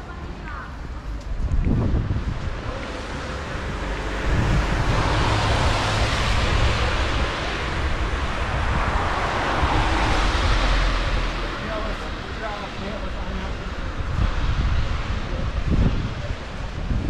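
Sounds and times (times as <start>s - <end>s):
wind rumbling on microphone: 0.0s - 17.0s
car tyres hissing on wet road: 2.1s - 17.0s.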